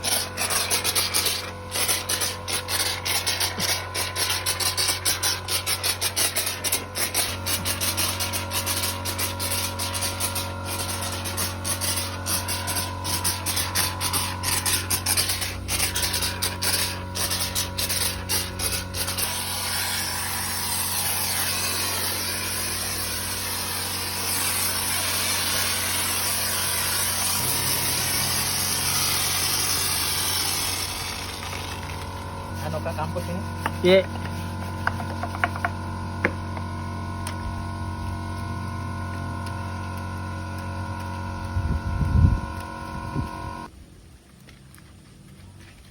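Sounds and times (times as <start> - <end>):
steady low hum: 0.0 - 43.7.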